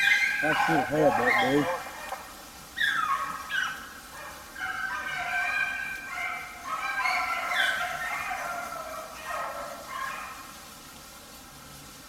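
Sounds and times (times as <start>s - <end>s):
hounds baying and howling: 0.0s - 10.6s.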